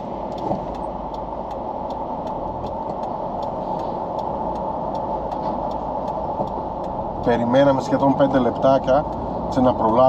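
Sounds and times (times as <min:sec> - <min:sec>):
engine and traffic hum: 0:00.0 - 0:10.0
turn signal ticking: 0:00.0 - 0:10.0.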